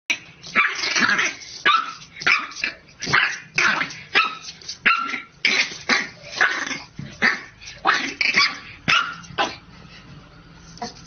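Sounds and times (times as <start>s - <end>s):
puppy barking: 0.6s - 9.6s.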